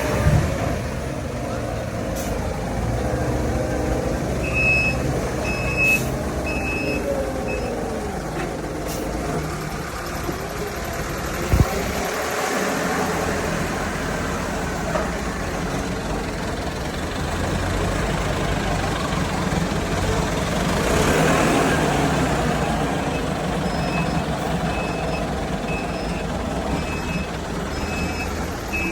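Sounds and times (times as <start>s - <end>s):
heavy vehicle engine running: 0.0s - 28.9s.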